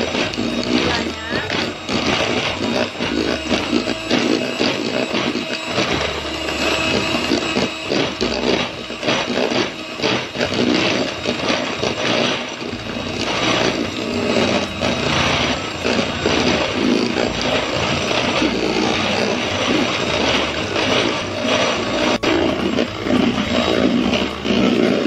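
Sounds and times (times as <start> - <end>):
electric hand mixer running: 0.0 - 25.0.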